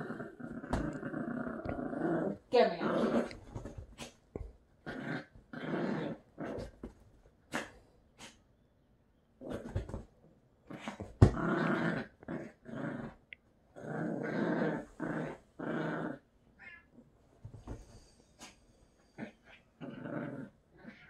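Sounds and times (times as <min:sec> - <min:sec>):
dog play-growling: 0:00.0 - 0:08.4, 0:09.4 - 0:16.3, 0:17.5 - 0:21.0.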